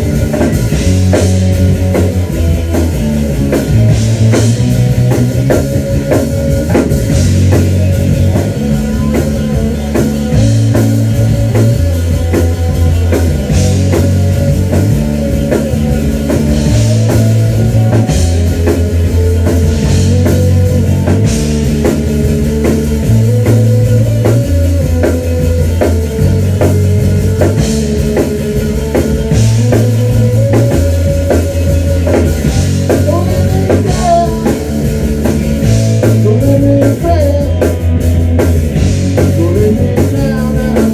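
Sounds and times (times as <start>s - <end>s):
drum kit: 0.0s - 40.9s
electric guitars playing riff: 0.0s - 40.9s.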